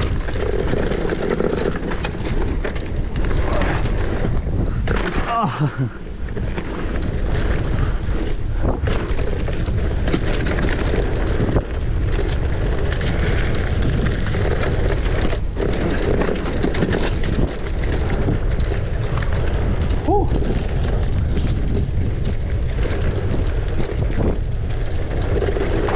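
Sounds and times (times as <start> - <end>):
bike rattling and knocking: 0.0 - 25.9
tyres rolling on dirt: 0.0 - 25.9
wind buffeting microphone: 0.0 - 25.9.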